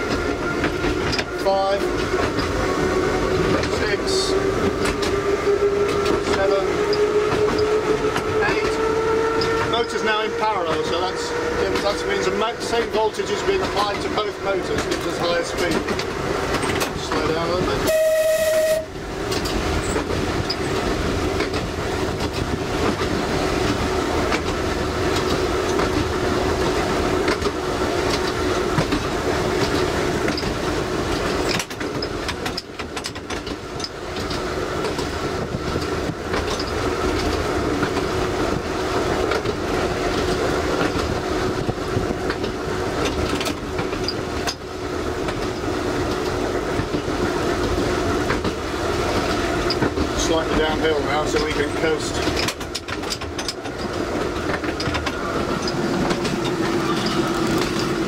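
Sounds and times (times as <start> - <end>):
tram motor hum: 0.0 - 58.0
wheels clacking on rails: 0.0 - 58.0.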